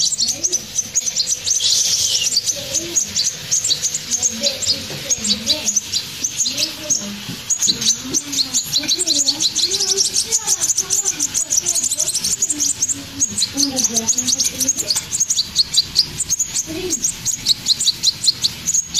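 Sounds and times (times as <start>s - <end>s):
fledgling birds chirping: 0.0s - 18.9s.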